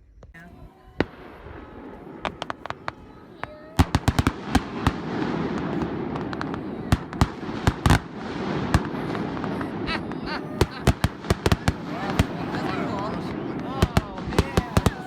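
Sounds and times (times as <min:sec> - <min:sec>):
fireworks bangs and cracks: 0:00.9 - 0:15.0.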